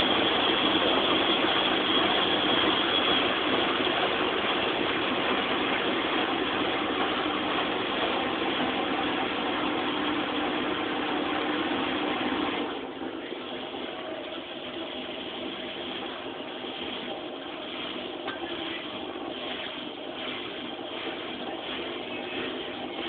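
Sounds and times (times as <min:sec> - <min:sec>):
high whine: 0:00.0 - 0:23.0
washing machine spinning: 0:00.0 - 0:23.0.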